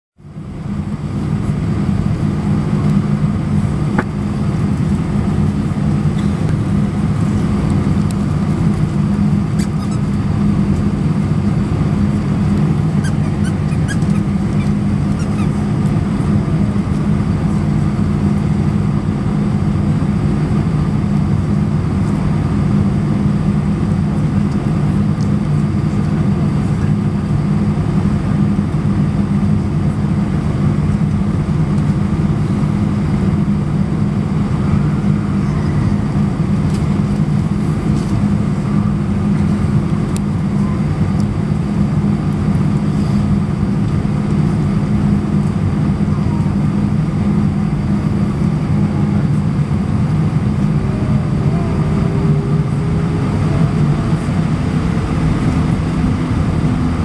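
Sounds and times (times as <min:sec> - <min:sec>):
jet engines droning in cabin: 0:00.2 - 0:57.0.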